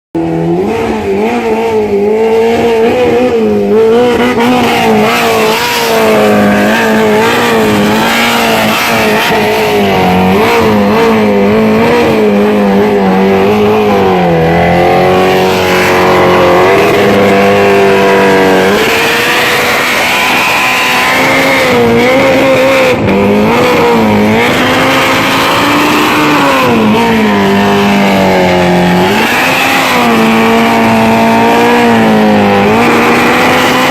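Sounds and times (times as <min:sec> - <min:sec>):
motorcycle engine at high revs: 0:00.2 - 0:33.9.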